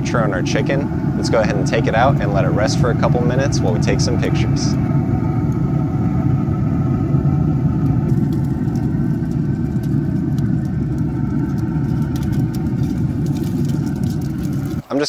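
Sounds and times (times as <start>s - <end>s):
pellet grill fan humming: 0.0s - 15.0s.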